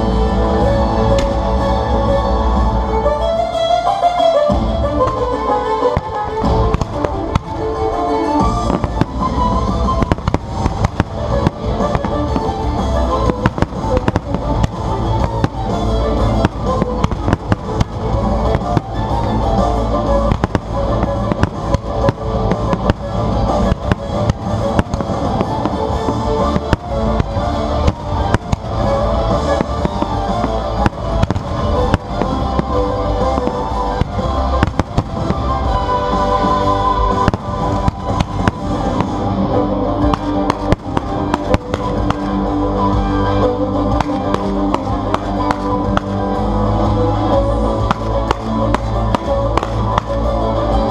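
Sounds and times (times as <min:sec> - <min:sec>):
loud music: 0:00.0 - 0:50.9
firework bangs: 0:05.0 - 0:43.3, 0:43.9 - 0:50.9.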